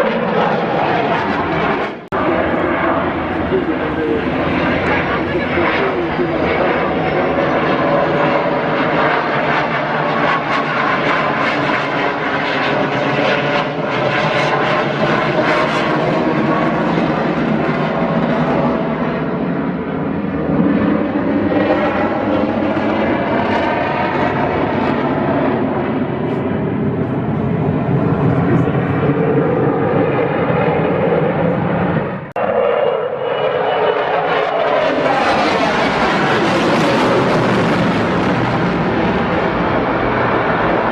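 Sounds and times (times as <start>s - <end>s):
aircraft engine noise: 0.0s - 40.9s.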